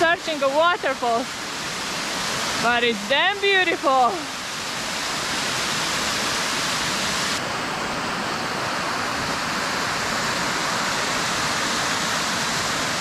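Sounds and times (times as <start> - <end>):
waterfall rushing hiss: 0.0 - 13.0.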